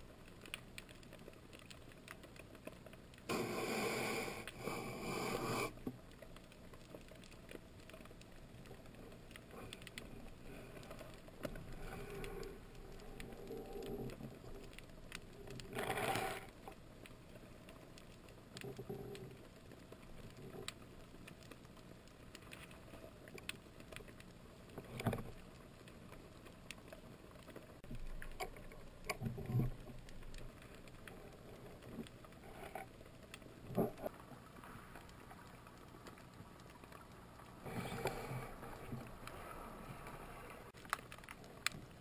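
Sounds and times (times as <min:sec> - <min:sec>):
faint clicks: 0:00.0 - 0:42.0
muffled underwater wash: 0:00.0 - 0:42.0.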